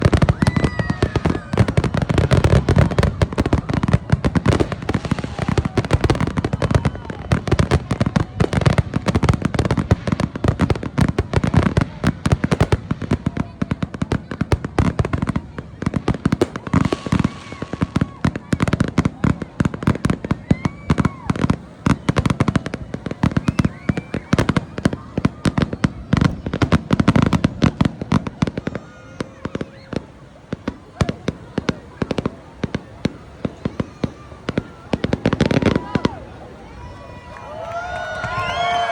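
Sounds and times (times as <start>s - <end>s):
firework whistle: 0.0s - 11.0s, 16.2s - 38.9s
fireworks crackling and banging: 0.0s - 38.9s.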